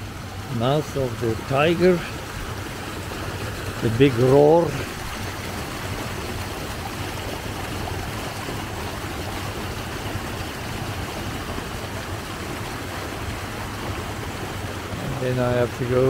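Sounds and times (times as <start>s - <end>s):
water rushing over stones: 0.0s - 16.0s.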